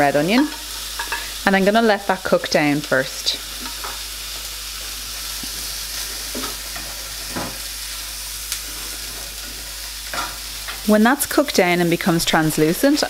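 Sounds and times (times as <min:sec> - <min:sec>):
onion sizzling in frying pan: 0:00.0 - 0:13.0.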